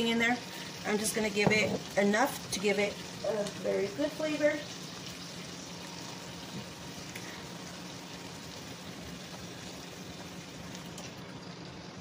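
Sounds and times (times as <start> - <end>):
food sizzling in a frying pan: 0.0 - 12.0
pot boiling: 0.0 - 12.0.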